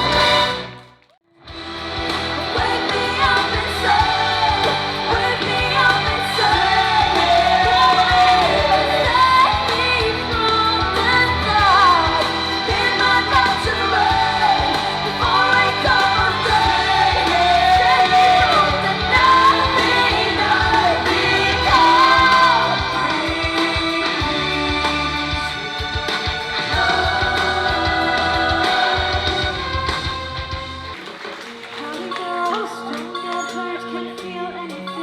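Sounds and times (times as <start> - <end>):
pop song with singing: 0.0 - 0.8, 1.5 - 35.0.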